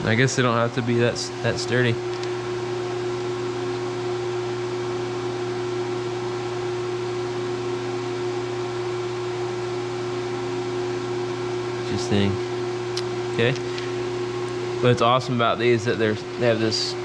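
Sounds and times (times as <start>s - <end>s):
shop machinery hum: 0.0s - 17.0s.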